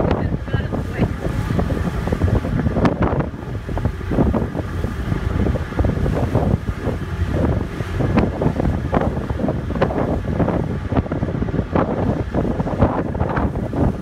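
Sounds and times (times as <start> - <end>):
boat engine rush: 0.0 - 14.0
water rushing: 0.0 - 14.0
wind buffeting microphone: 0.0 - 14.0.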